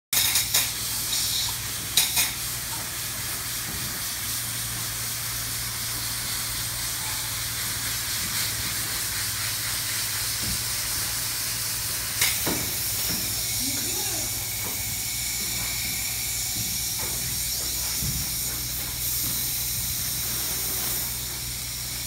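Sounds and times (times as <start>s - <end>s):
spray foam gun hissing: 0.2s - 22.0s.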